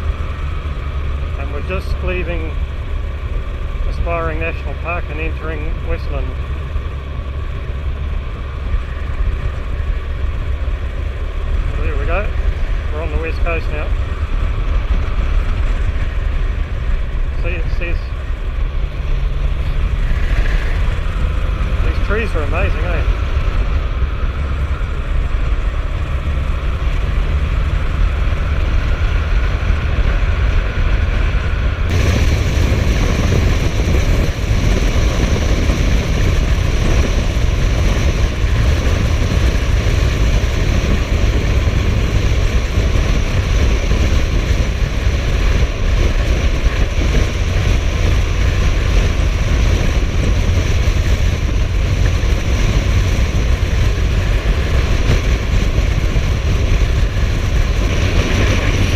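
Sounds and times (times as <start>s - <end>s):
motorcycle engine running: 0.0s - 58.9s
wind and road rush on microphone: 0.0s - 58.9s.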